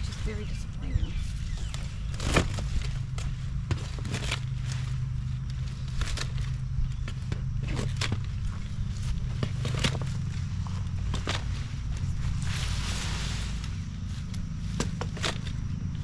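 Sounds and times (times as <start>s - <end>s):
dry plant matter crunching: 0.0s - 16.0s
steady low rumble: 0.0s - 16.0s.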